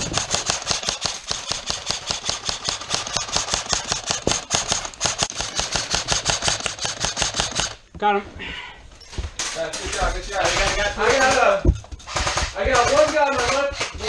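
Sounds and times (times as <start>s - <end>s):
airsoft rifle firing full auto: 0.0s - 7.8s, 10.4s - 14.0s.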